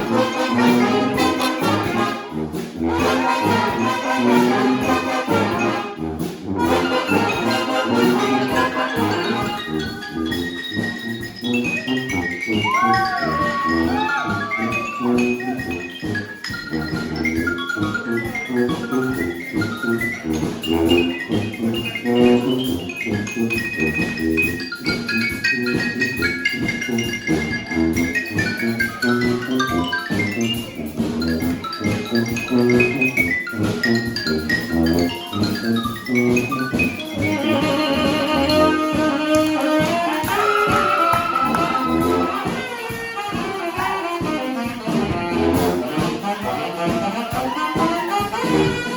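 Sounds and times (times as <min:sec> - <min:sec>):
brass band horns: 0:00.0 - 0:48.9
steady drum beat: 0:00.0 - 0:48.9.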